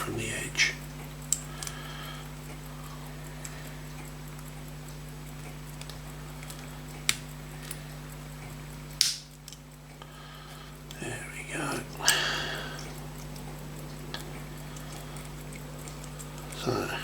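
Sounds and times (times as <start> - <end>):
steady low hum: 0.0 - 17.0
small sharp metal clicks: 0.7 - 17.0.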